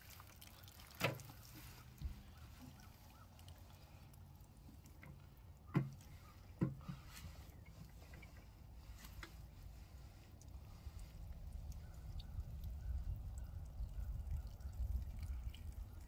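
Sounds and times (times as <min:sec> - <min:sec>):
water sloshing in a washtub: 0:00.0 - 0:16.0.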